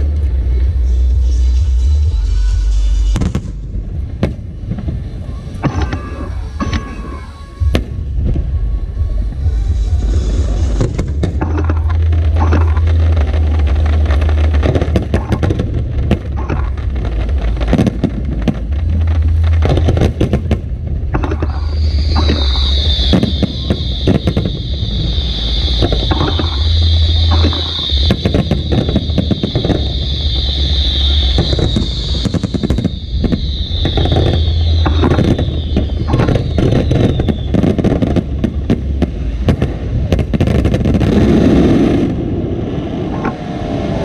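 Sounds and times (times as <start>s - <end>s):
steady high hiss: 0.0s - 41.1s
fireworks crackling pops: 0.0s - 43.4s
fireworks bursts rumbling: 0.0s - 44.0s.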